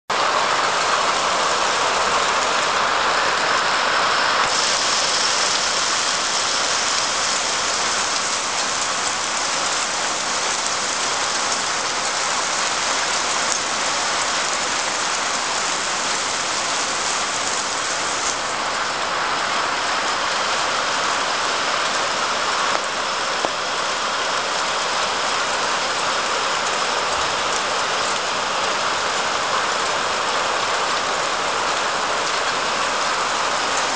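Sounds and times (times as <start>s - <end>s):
heavy rain on roofs: 0.1s - 33.9s.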